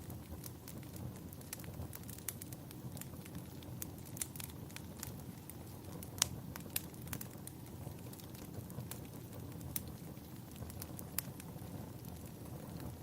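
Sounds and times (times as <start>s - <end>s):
low rumble of fire: 0.0s - 13.0s
wood fire crackling: 0.0s - 13.0s.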